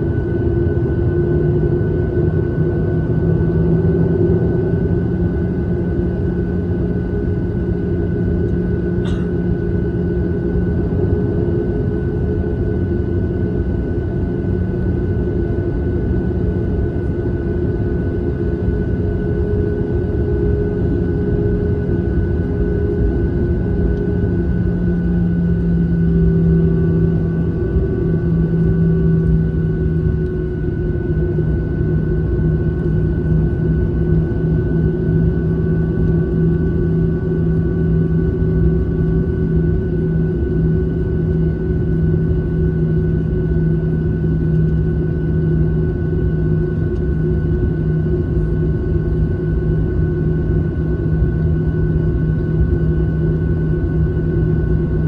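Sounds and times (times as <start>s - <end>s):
airliner engine drone in cabin: 0.0s - 55.0s.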